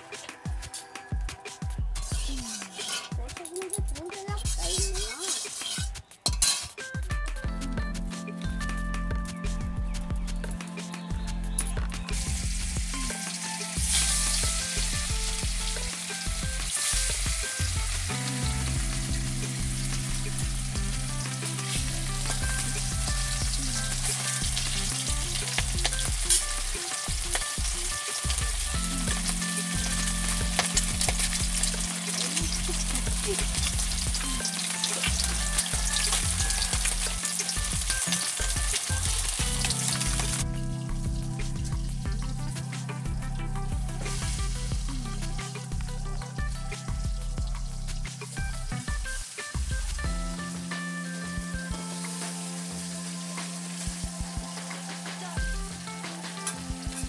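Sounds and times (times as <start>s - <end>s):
background music: 0.0s - 57.0s
food sizzling in hot oil: 0.1s - 6.9s, 11.4s - 57.0s.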